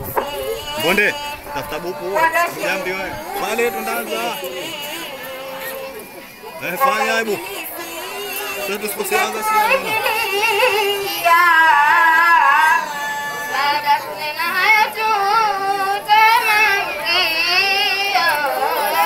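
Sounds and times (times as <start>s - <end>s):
girl singing unaccompanied: 0.0s - 19.0s.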